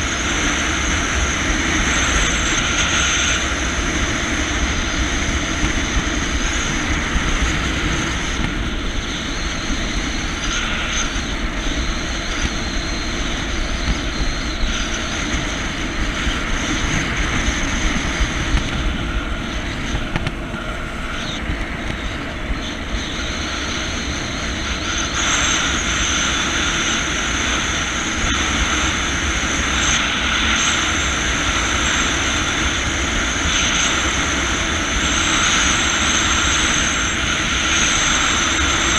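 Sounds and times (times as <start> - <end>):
jet ski engine running: 0.0 - 38.9.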